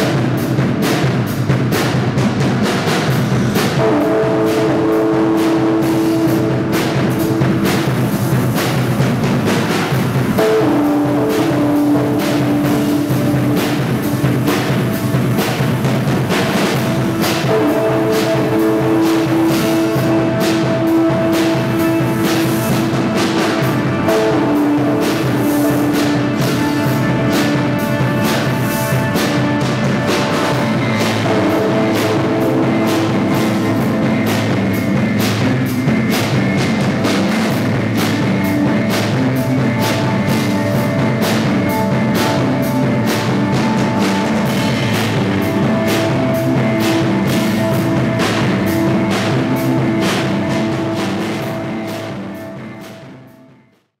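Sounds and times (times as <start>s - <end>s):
guitar: 0.0s - 53.7s
drum kit beat: 0.0s - 53.9s.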